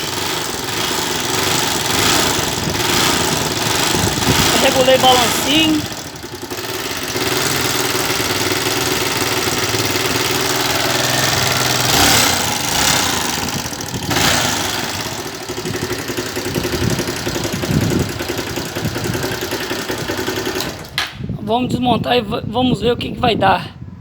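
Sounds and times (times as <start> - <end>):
engine knocking: 0.0 - 21.0
motorcycle engine running: 0.0 - 21.3.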